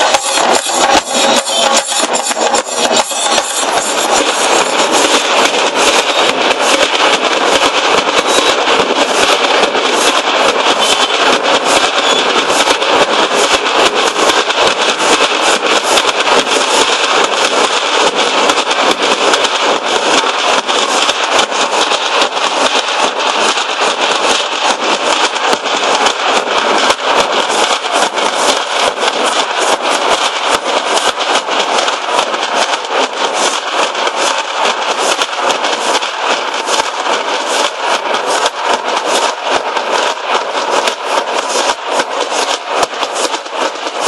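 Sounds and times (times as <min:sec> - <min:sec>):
barrel drums beaten fast: 0:00.0 - 0:44.0.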